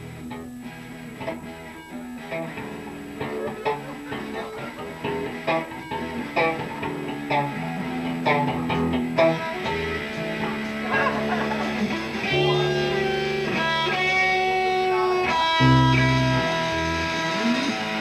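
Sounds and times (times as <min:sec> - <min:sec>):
bass guitar line: 0:00.0 - 0:18.0
electric guitar picked notes: 0:00.0 - 0:18.0
rock band music: 0:00.0 - 0:18.0.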